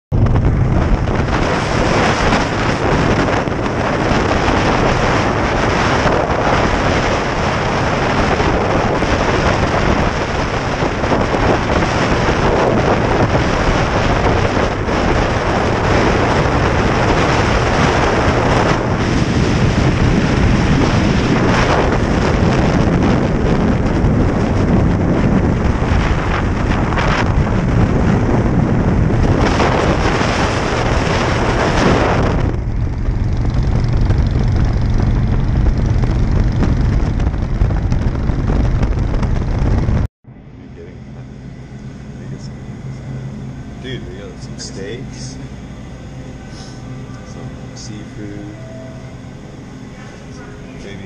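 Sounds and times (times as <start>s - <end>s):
motorcycle engine: 0.1s - 51.0s
wind buffeting microphone: 0.1s - 51.0s.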